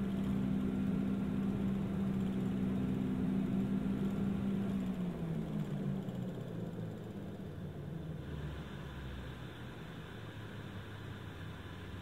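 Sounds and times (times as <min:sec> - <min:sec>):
turboprop engine droning hum: 0:00.0 - 0:12.0.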